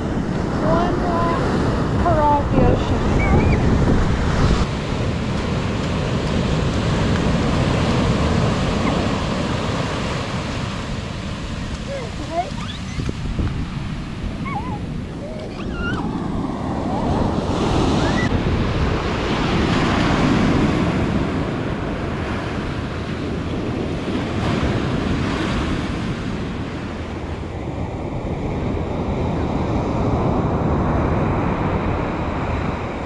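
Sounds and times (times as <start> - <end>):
waves breaking on beach: 0.0 - 33.0
wind rumble on microphone: 0.0 - 33.0.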